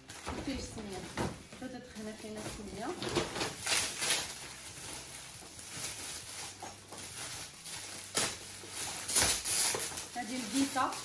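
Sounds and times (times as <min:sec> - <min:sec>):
gift packaging rustling: 0:00.0 - 0:11.0.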